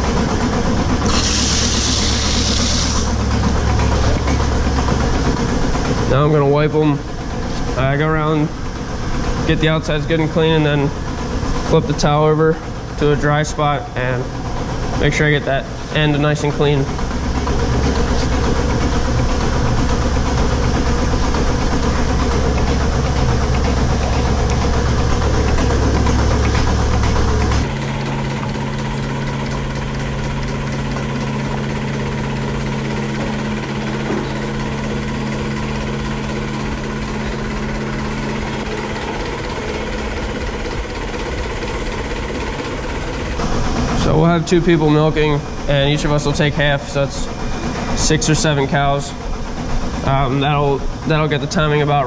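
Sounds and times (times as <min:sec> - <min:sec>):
milking machinery humming: 0:00.0 - 0:52.0.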